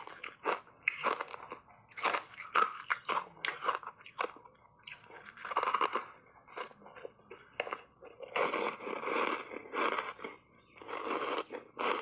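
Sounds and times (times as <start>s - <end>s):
crunching ice: 0.0s - 12.0s.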